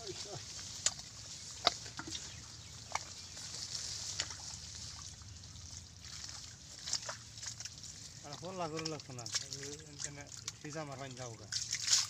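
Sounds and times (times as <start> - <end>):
hands squelching in wet mud: 0.0 - 12.0.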